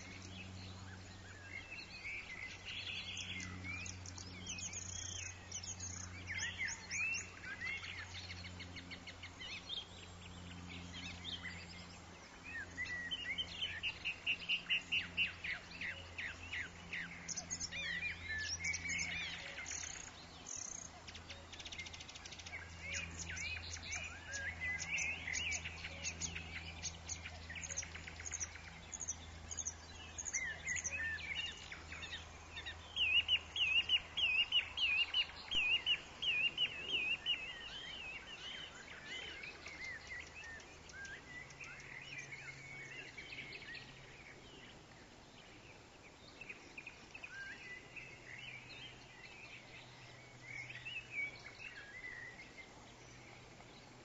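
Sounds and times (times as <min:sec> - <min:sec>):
songbirds singing: 0:00.0 - 0:54.0
steady low hum: 0:00.0 - 0:54.0.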